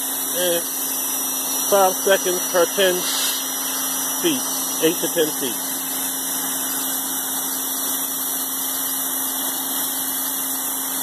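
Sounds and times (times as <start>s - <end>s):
pressure washer humming: 0.0s - 11.0s
spray hissing on wooden boards: 0.0s - 11.0s.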